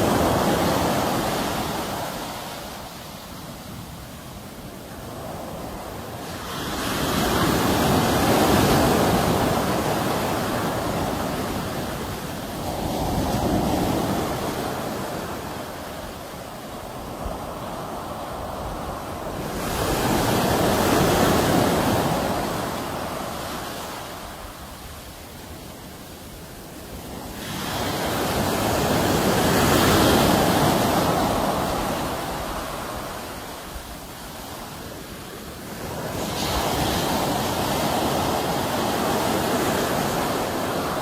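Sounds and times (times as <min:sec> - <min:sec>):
sea waves washing onto shore: 0:00.0 - 0:41.0.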